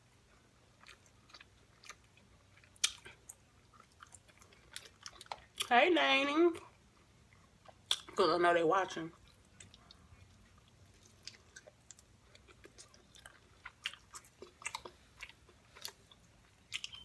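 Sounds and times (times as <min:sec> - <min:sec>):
person chewing food: 0:00.0 - 0:05.7, 0:06.6 - 0:08.2, 0:09.1 - 0:17.0.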